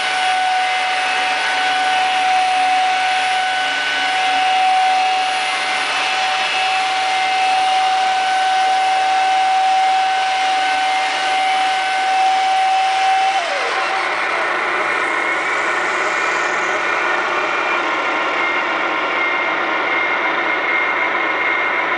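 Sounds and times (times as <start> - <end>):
rotor blades rushing: 0.0 - 21.2
rc helicopter whine: 0.0 - 21.9.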